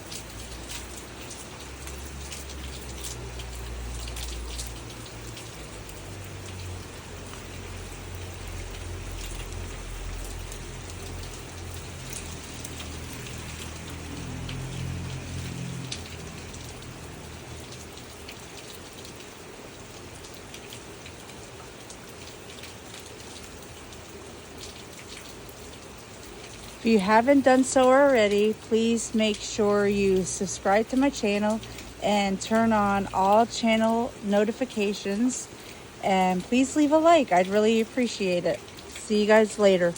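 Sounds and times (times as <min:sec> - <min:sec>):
rain drops ticking on surface: 0:00.0 - 0:39.9.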